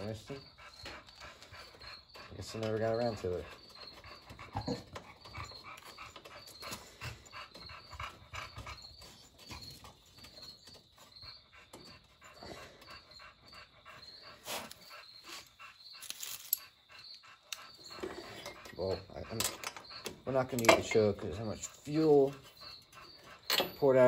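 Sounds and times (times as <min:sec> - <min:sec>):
animal panting: 0:00.0 - 0:24.0.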